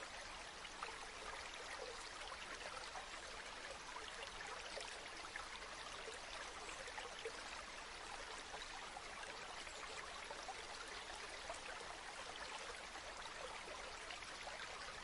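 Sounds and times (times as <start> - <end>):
river water babbling: 0.0 - 15.0.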